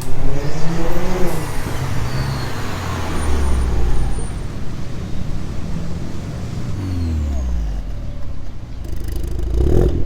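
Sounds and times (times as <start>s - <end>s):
low car engine note: 0.0s - 10.0s
road noise: 0.0s - 10.0s.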